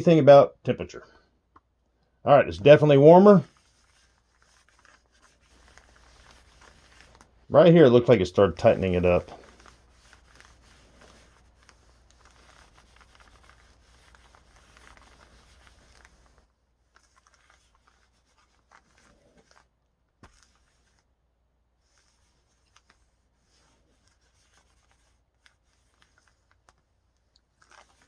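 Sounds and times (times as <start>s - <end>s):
iron rubbing over plastic film: 3.2s - 7.5s, 8.1s - 21.1s, 21.8s - 26.8s, 27.5s - 28.0s.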